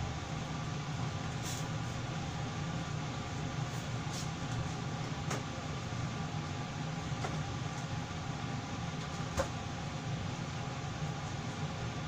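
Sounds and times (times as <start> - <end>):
ventilation fan humming: 0.0 - 12.0.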